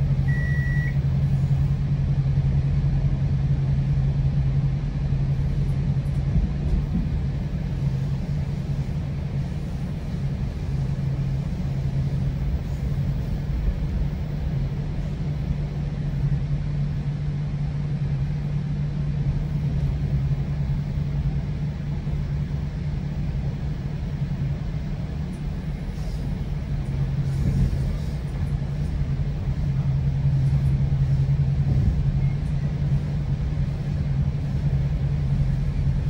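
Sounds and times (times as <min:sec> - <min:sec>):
constant low hum: 0:00.0 - 0:36.0
train coach rumbling on track: 0:00.0 - 0:36.0.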